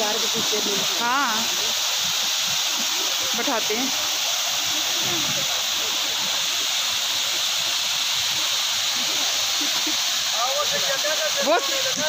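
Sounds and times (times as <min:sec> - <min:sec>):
water rushing down a weir: 0:00.0 - 0:12.0.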